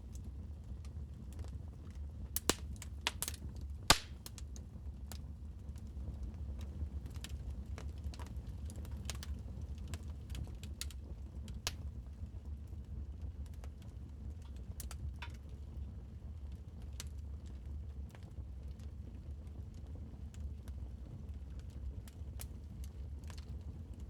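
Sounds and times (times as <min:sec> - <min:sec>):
wood fire crackling in fireplace: 0:00.0 - 0:24.0.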